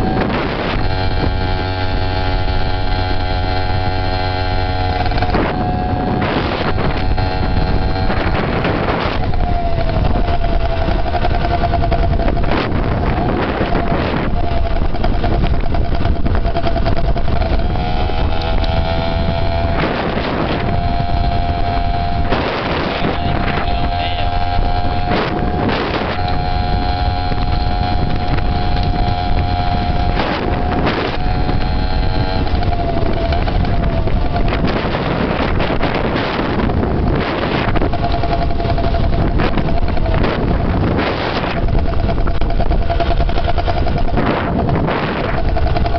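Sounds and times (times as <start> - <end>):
dirt bike engine running: 0.0 - 45.9
wind buffeting microphone: 0.0 - 45.9.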